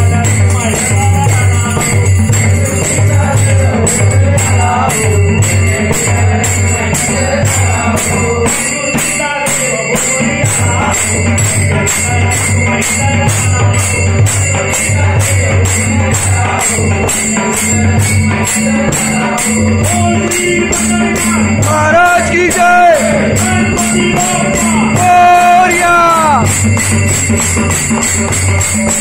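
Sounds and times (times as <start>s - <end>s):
brass hand cymbals clashing: 0.0s - 29.0s
men singing together: 0.0s - 29.0s.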